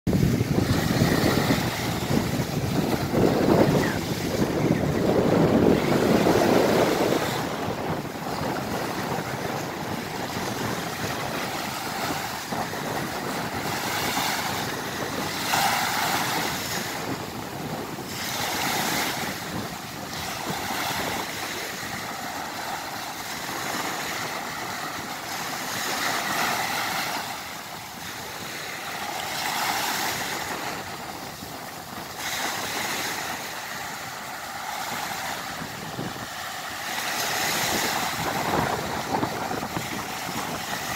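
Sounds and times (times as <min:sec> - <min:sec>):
waves washing in: 0:00.1 - 0:40.9
wind buffeting microphone: 0:00.1 - 0:40.9.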